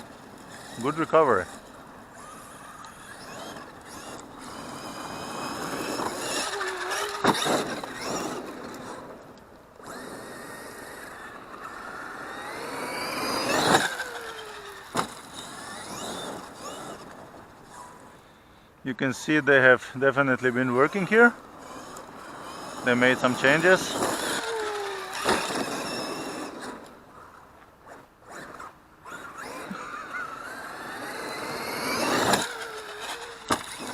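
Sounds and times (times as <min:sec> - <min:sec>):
tyres rushing on dirt: 0:00.0 - 0:18.2, 0:18.9 - 0:33.9
electric toy car motor whining: 0:00.0 - 0:18.4, 0:20.2 - 0:33.9.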